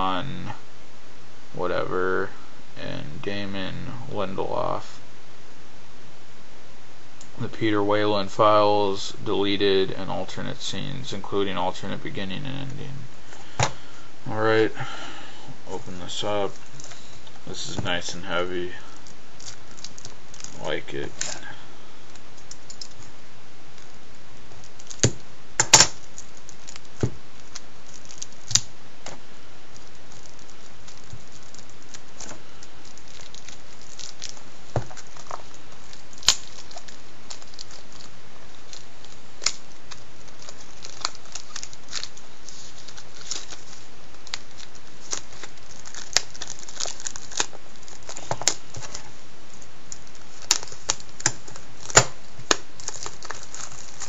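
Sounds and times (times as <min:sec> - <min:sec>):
steady background hiss: 0:00.0 - 0:54.0
plastic wrap crinkling and crackling: 0:10.3 - 0:54.0.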